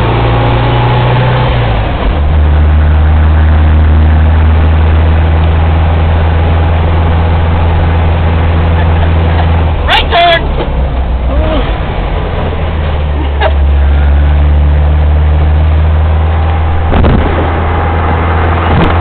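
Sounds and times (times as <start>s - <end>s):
car engine running: 0.0s - 19.0s
wind and road noise: 0.0s - 19.0s.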